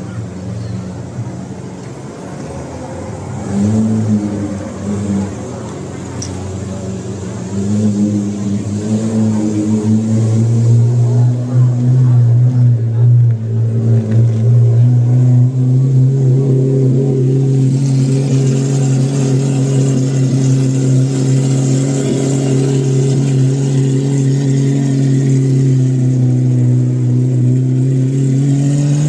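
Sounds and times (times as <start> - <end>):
supercar engine running: 0.0 - 29.0.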